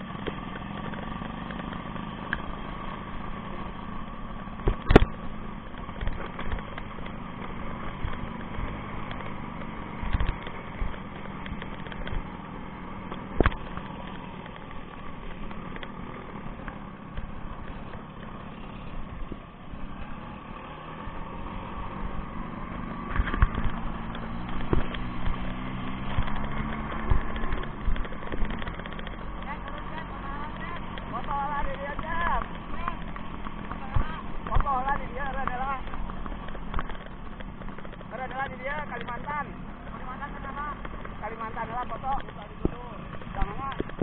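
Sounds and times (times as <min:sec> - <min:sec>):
small motorcycle engine running: 0:00.0 - 0:44.0.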